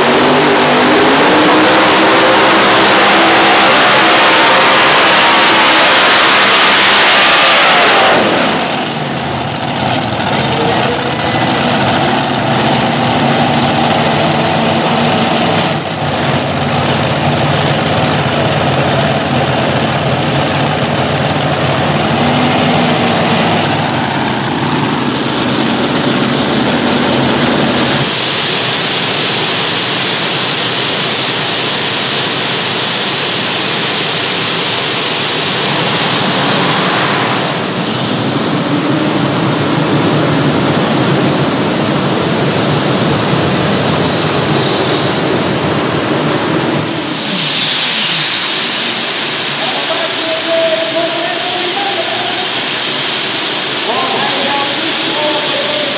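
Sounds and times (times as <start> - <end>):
tractor engines idling and revving: 0.0 - 55.9
turbine high whine: 0.0 - 55.9.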